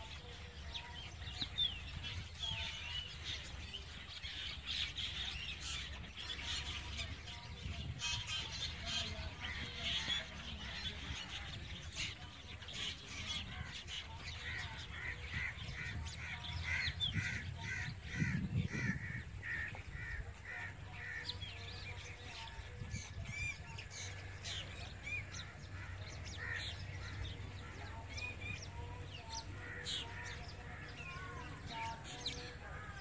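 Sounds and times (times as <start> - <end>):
birds calling and chirping: 0.0 - 33.0.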